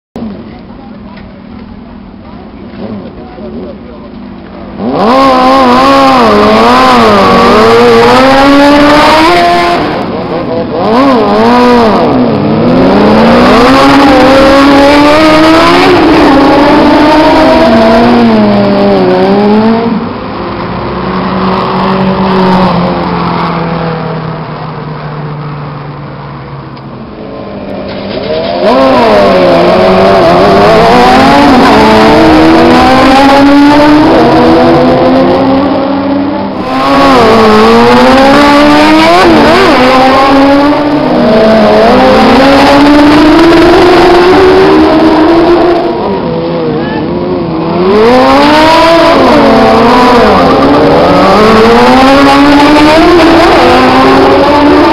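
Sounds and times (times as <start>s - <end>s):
motorcycle engines racing past: 2.6s - 54.9s.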